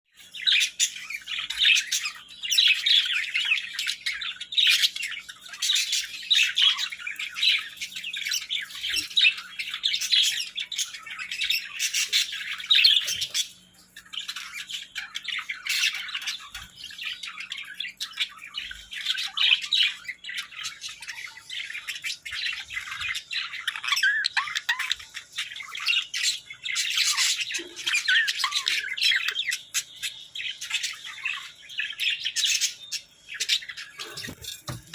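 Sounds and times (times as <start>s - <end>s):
budgerigars chattering and warbling: 0.2s - 34.9s.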